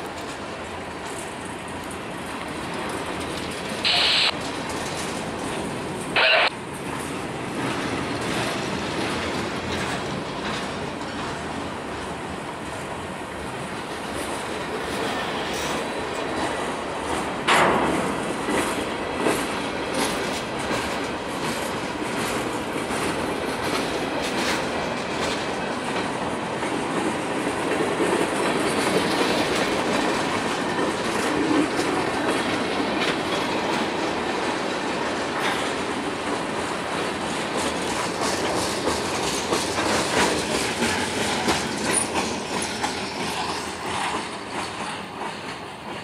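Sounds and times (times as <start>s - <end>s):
train wheels clickety-clack: 0.0s - 46.0s.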